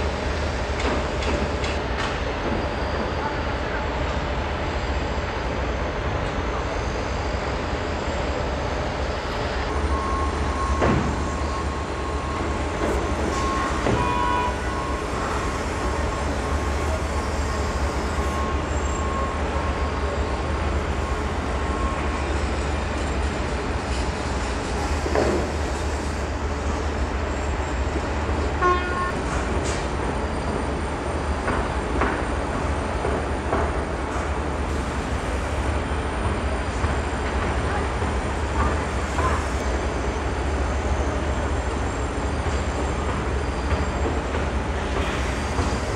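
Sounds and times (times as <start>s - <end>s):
steady construction rumble: 0.0s - 45.9s.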